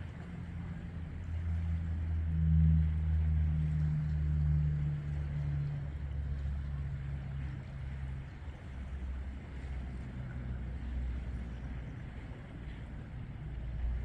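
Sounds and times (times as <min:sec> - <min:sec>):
distant aircraft engine drone: 0:00.0 - 0:14.0.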